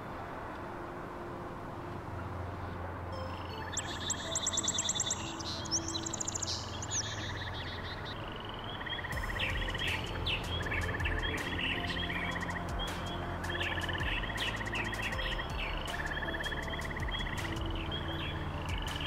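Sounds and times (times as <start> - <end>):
outdoor background hiss: 0.0 - 19.0
small birds chirping and trilling: 3.3 - 19.0.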